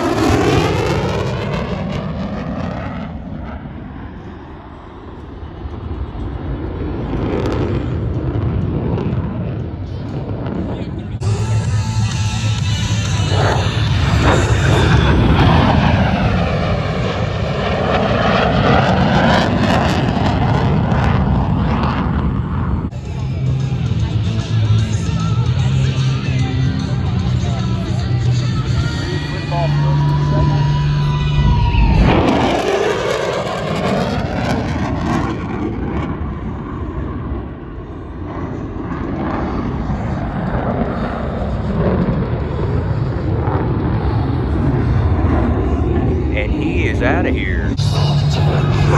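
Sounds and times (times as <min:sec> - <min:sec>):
airplane engine fly-past: 0:00.0 - 0:48.9.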